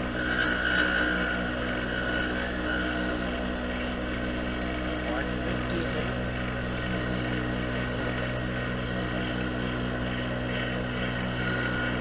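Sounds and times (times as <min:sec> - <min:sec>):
wood lathe motor hum: 0:00.0 - 0:12.0.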